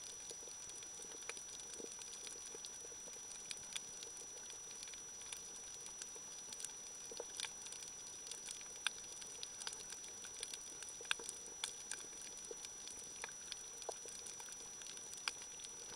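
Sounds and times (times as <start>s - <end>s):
steady hiss: 0.0s - 15.9s.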